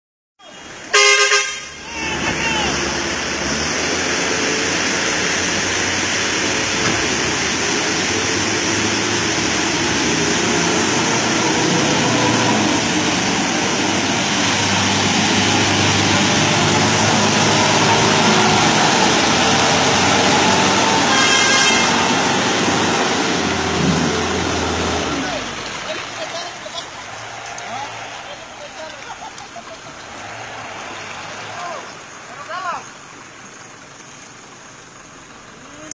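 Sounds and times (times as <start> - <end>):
vehicle engine and road noise: 0.4 - 35.9.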